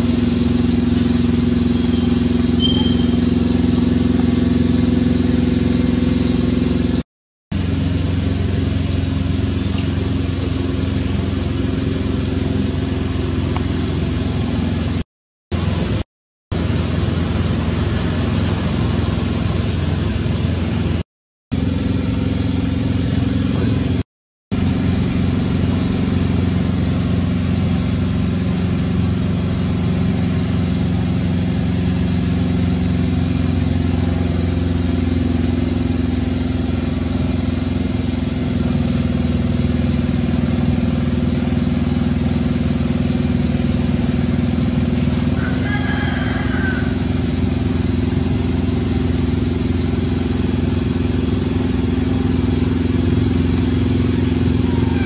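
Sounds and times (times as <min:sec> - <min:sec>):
low mechanical drone: 0:00.0 - 0:55.0.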